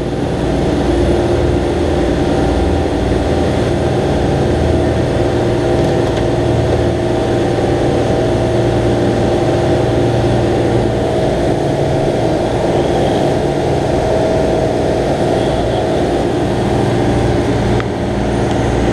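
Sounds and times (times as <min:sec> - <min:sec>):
boat engines running: 0:00.0 - 0:18.9.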